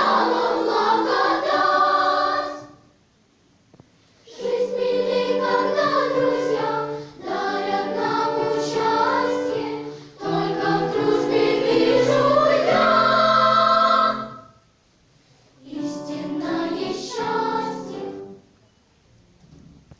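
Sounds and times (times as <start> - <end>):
children's choir singing: 0.0 - 2.9, 4.2 - 14.6, 15.6 - 18.5.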